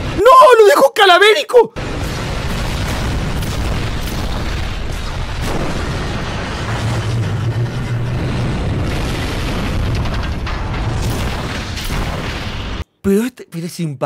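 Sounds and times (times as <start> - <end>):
explosions rumbling: 0.0 - 0.3, 1.7 - 12.8.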